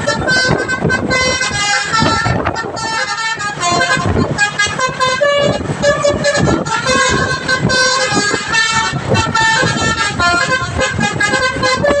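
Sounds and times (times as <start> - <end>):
multi-tone bus horn melody: 0.0 - 12.0.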